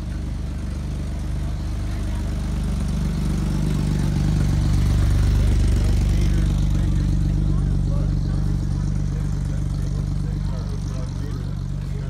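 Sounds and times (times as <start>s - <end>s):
car engine running slowly: 0.0s - 12.0s.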